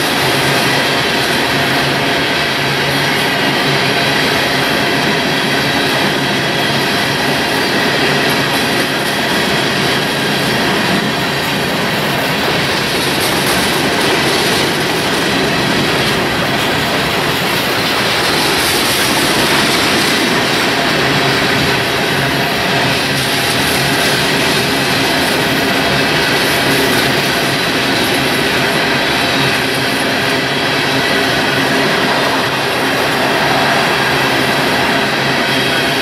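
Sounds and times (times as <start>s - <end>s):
freight train wheels rumbling on bridge: 0.0s - 36.0s.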